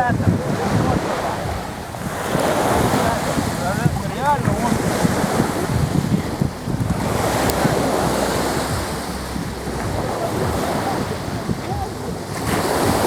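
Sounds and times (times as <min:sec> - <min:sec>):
sea waves washing ashore: 0:00.0 - 0:13.0
wind buffeting microphone: 0:00.0 - 0:13.0.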